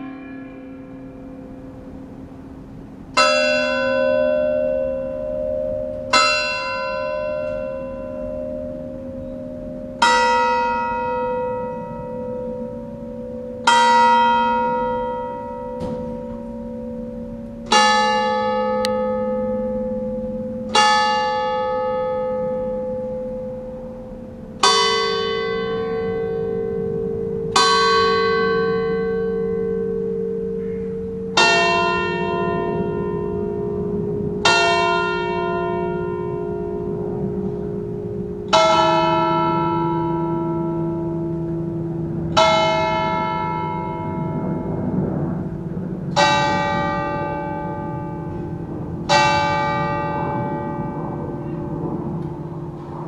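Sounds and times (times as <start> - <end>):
church bell tolling: 0.0 - 53.0.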